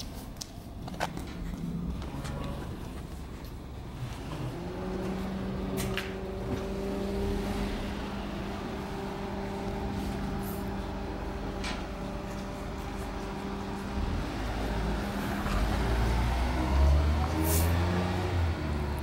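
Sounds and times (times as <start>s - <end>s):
low mechanical hum: 0.0s - 16.9s
street background noise: 0.0s - 19.0s.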